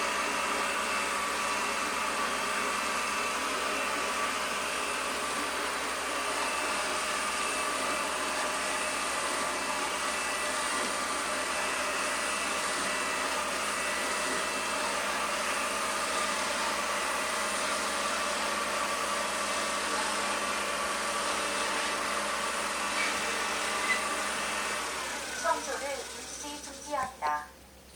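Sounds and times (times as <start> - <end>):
robot vacuum fan whirring: 0.0 - 27.4.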